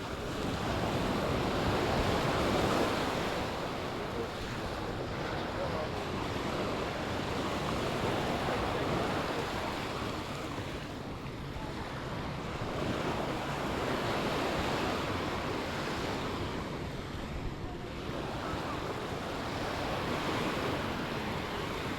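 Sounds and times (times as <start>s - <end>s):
waves breaking on beach: 0.0s - 21.9s.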